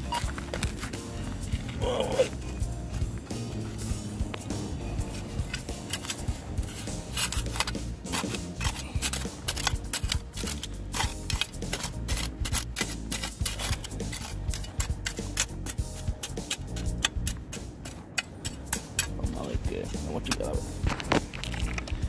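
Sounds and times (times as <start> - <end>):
metal blade scraping dry soil: 0.0 - 22.0.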